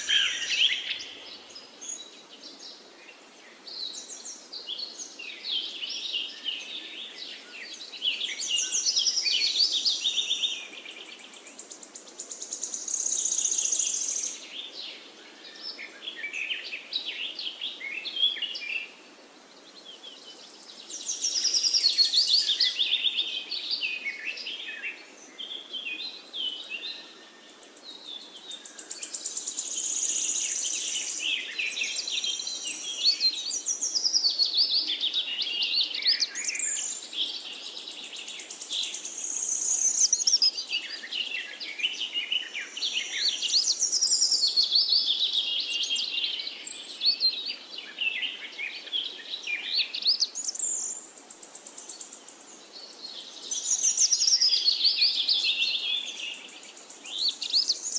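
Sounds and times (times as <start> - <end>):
songbirds chirping and trilling: 0.0 - 57.9.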